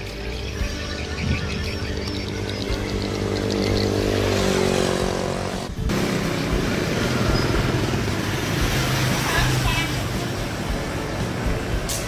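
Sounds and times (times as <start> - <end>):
vehicle engine running: 0.0 - 11.9
engine and road noise: 0.0 - 12.0.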